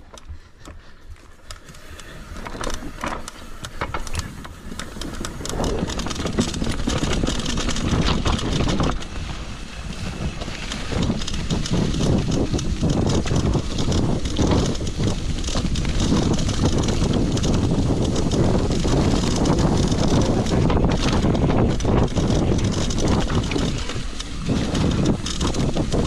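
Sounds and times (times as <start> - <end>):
bike tyres rattling over dirt: 0.0 - 26.0
wind on microphone: 2.2 - 26.0.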